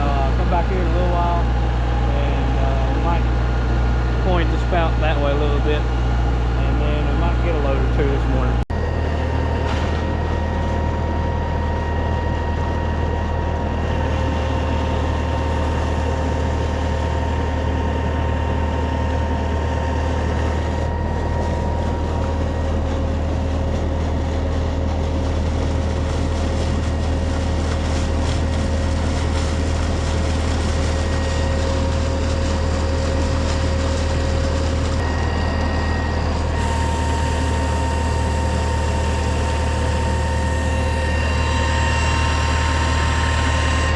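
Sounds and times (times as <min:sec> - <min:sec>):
steady whine: 0:00.0 - 0:43.9
tractor diesel engine running: 0:00.0 - 0:43.9.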